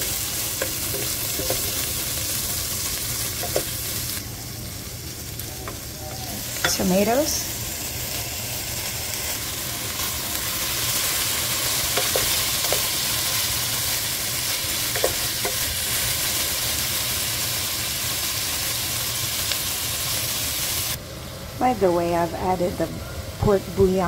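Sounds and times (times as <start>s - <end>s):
vegetables sizzling in a pan: 0.0s - 24.0s.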